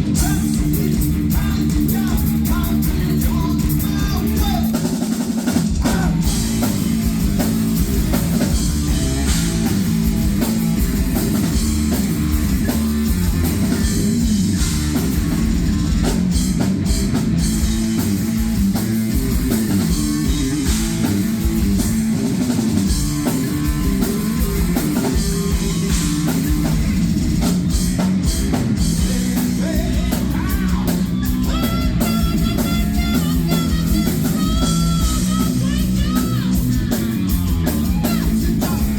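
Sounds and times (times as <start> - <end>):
bass guitar: 0.0 - 38.9
distorted electric guitars: 0.0 - 38.9
pounding drum kit: 0.0 - 38.9.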